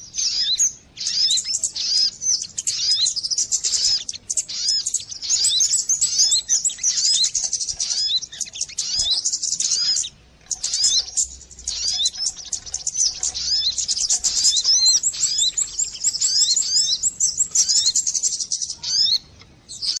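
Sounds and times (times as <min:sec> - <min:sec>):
rapid high bird chirps: 0:00.0 - 0:20.0.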